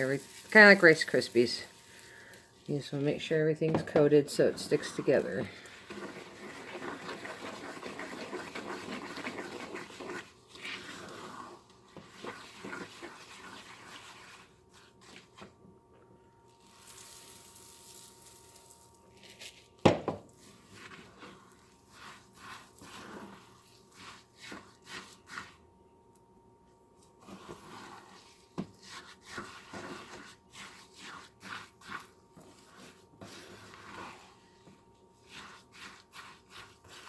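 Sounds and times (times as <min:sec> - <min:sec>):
spoon scraping through seed: 0:00.0 - 0:02.9, 0:04.4 - 0:15.4, 0:16.5 - 0:19.7, 0:20.3 - 0:25.7, 0:27.0 - 0:37.0.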